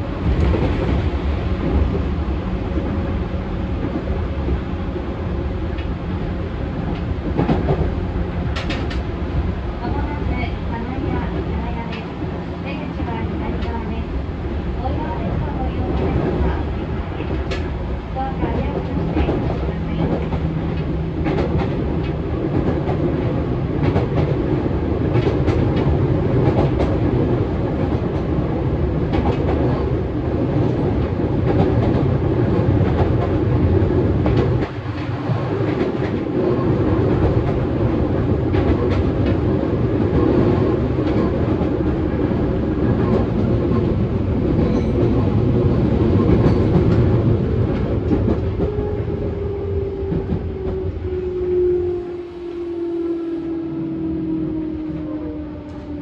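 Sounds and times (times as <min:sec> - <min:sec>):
rail-joint clickety-clack: 0:00.0 - 0:14.0, 0:14.8 - 0:51.8
train wheels rumbling: 0:00.0 - 0:56.0.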